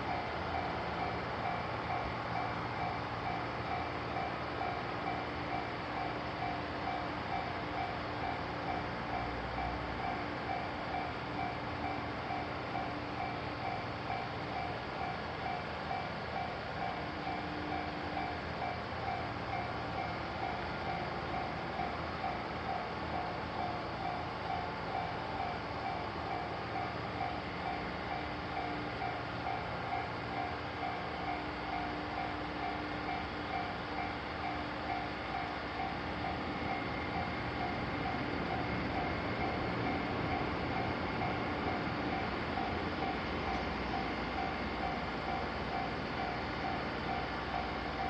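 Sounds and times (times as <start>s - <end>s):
train rumbling past: 0.0s - 48.0s.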